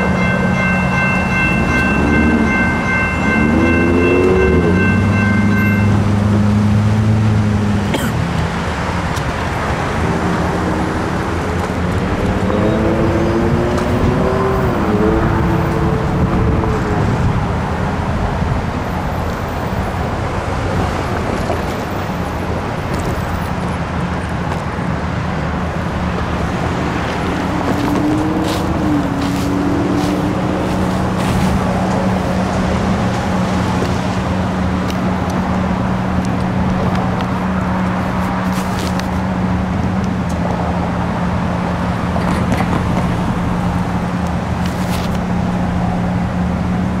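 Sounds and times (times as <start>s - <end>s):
low engine hum: 0.0s - 47.0s
road traffic: 0.0s - 47.0s.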